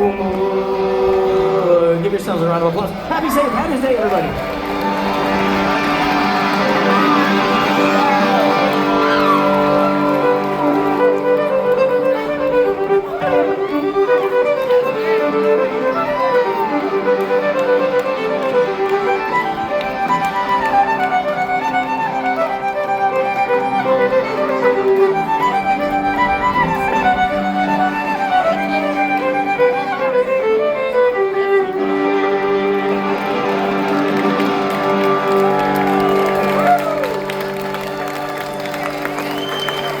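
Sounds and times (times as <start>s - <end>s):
band holding long chords: 0.0s - 40.0s
crowd chatter: 0.0s - 40.0s
fiddle playing quick melody: 1.6s - 40.0s
music with held notes: 3.8s - 40.0s.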